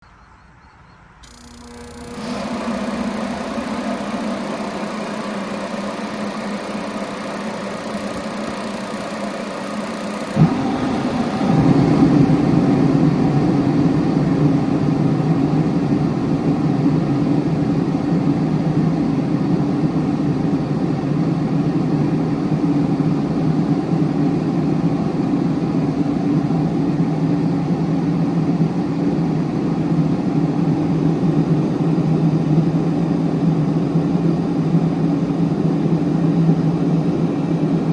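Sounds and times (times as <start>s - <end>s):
forced-air heater humming: 1.2s - 37.9s.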